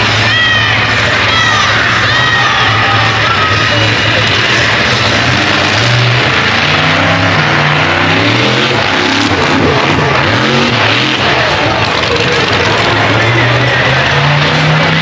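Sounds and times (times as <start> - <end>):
vehicle engines revving: 0.0 - 15.0.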